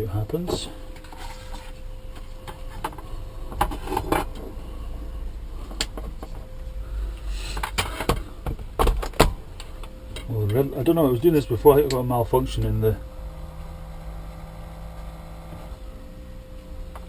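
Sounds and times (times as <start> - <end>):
low rumble: 0.6 - 17.0.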